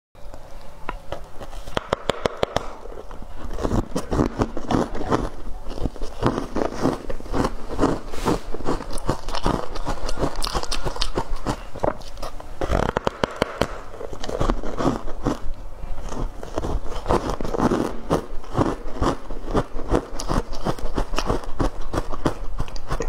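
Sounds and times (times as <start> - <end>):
ice crunching being chewed: 2.8 - 23.0.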